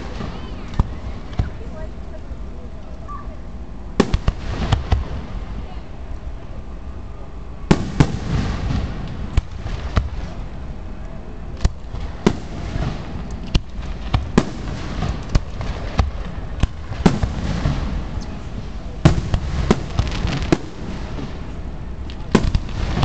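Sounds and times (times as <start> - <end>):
fireworks bangs: 0.0 - 2.0, 3.2 - 6.4, 7.6 - 23.0
low rumble: 0.0 - 23.0.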